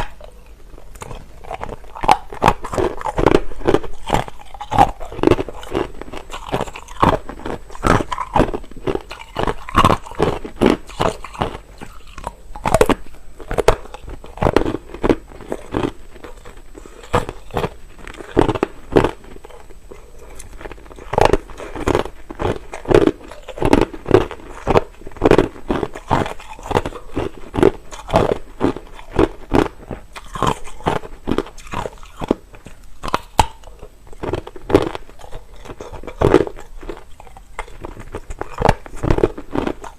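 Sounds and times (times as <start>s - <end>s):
crunching ice in the mouth: 0.0s - 39.9s.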